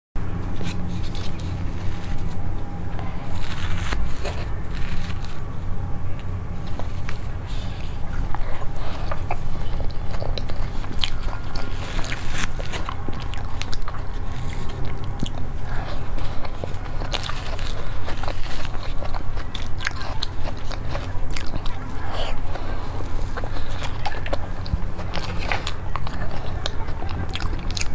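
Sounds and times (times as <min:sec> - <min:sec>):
chewing and biting cake: 0:00.4 - 0:27.9.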